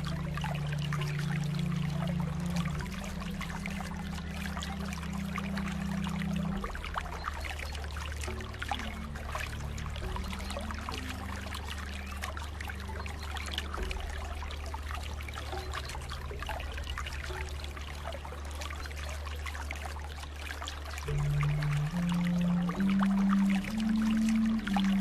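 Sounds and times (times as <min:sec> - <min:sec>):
water trickling and splashing: 0:00.0 - 0:25.0.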